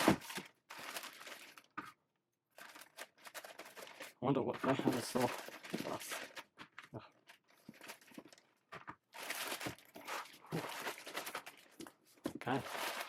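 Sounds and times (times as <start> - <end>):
packing material crinkling and tearing: 0.0 - 1.8, 2.5 - 8.5, 9.1 - 13.0.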